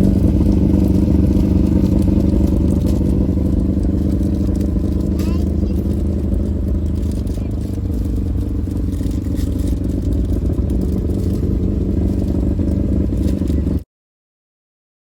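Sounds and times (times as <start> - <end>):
car engine running: 0.0 - 13.8.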